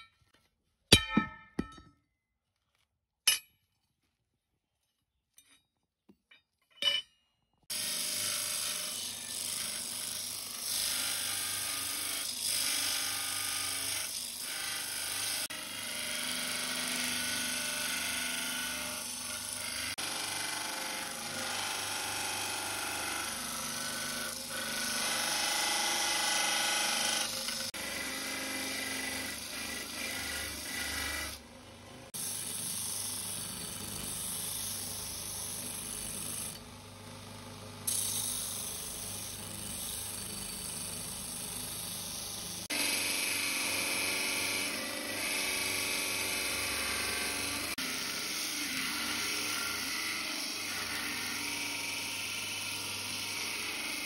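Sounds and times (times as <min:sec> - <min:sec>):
belt grinder grinding steel: 0:07.7 - 0:31.4, 0:32.1 - 0:36.6, 0:37.9 - 0:54.0.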